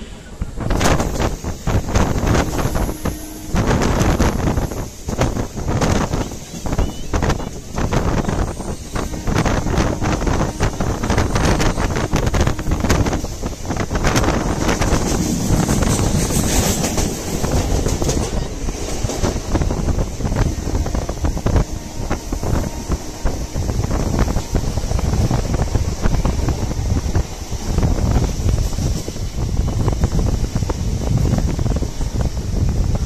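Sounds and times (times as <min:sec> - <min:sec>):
irregular train clatter: 0:00.0 - 0:33.0
train running rumble: 0:00.0 - 0:33.0
wind buffeting microphone: 0:00.0 - 0:33.0.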